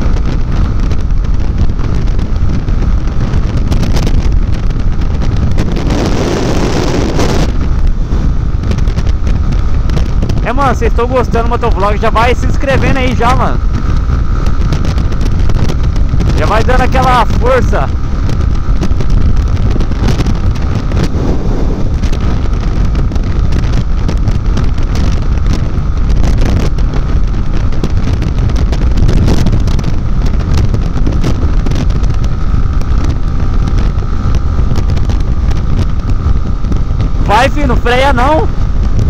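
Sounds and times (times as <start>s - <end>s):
motorcycle engine running: 0.0s - 39.0s
wind buffeting microphone: 0.0s - 39.0s.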